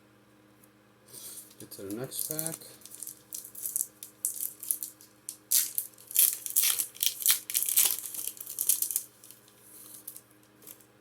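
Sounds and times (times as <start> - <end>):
foil wrapper crinkling and tearing: 1.3 - 10.8.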